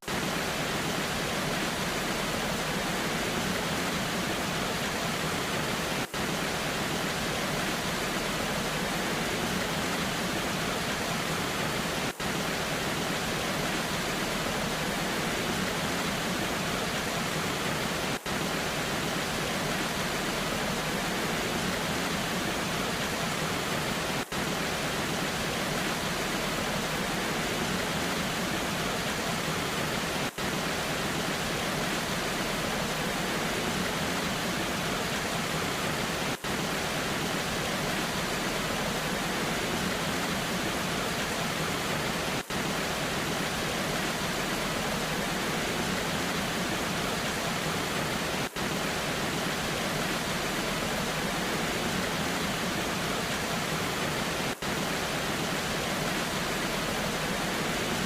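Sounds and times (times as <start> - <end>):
rain: 0.0 - 58.0
waterfall rushing: 0.0 - 58.0.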